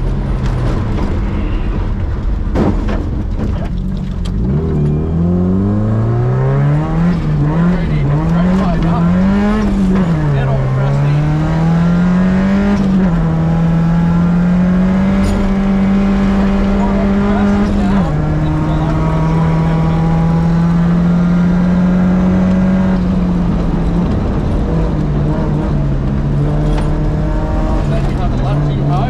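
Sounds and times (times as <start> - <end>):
rally car engine revving: 0.0 - 29.0
tyre and road noise: 0.0 - 29.0.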